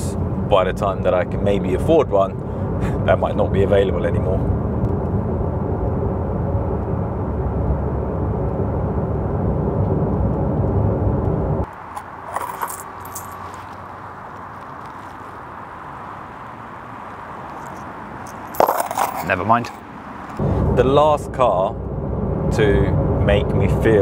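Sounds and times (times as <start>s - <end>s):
car engine and tyre drone: 0.0s - 23.9s.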